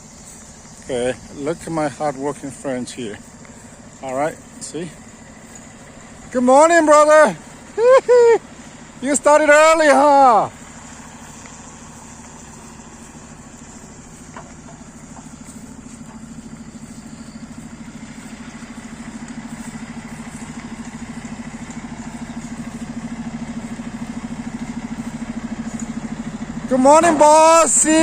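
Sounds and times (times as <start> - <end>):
construction machine engine pulsing: 0.0 - 28.0.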